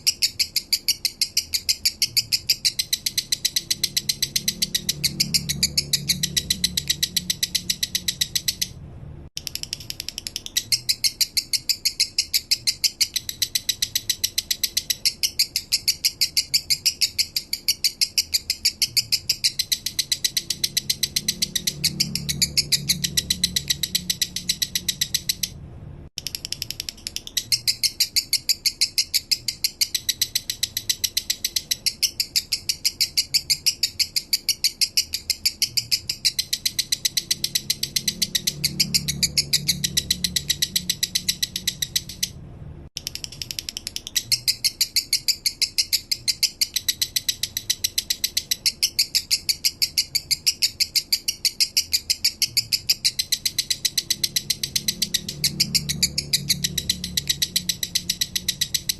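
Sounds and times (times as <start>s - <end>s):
bird singing chattering song: 0.0s - 8.8s, 9.4s - 25.6s, 26.2s - 42.4s, 43.0s - 58.9s.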